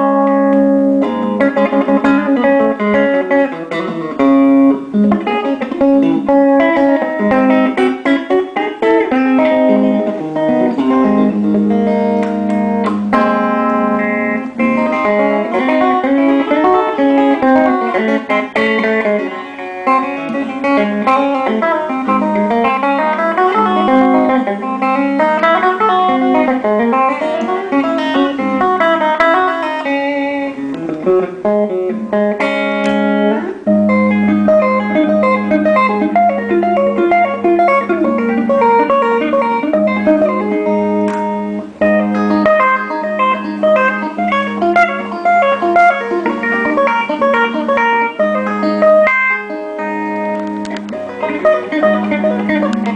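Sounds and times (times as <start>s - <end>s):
electric guitar playing fast runs: 0.0s - 52.9s.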